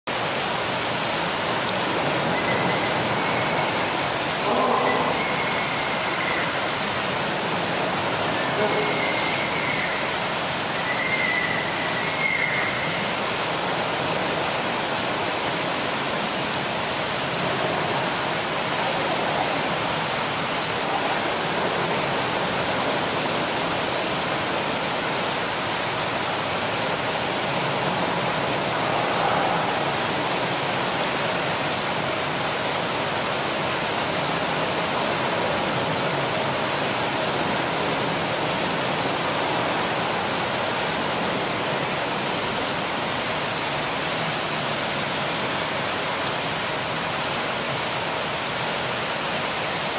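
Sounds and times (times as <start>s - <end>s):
water rushing: 0.1s - 49.9s.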